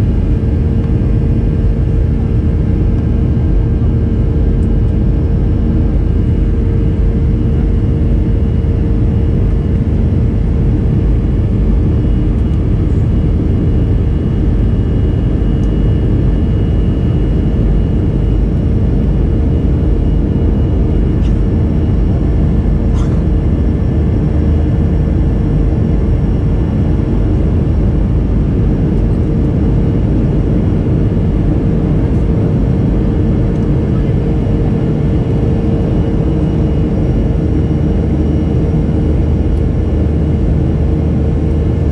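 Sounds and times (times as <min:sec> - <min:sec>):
airplane cabin rumble: 0:00.0 - 0:41.9
jet engine droning tone: 0:00.0 - 0:41.9.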